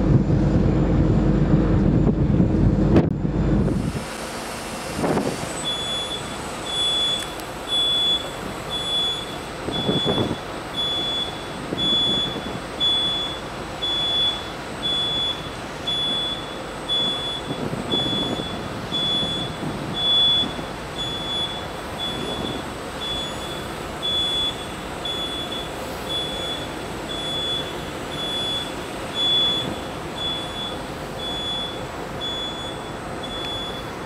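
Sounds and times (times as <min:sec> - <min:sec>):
low rumbling gusts: 0:00.0 - 0:34.0
electronic warning beeps: 0:05.6 - 0:34.0.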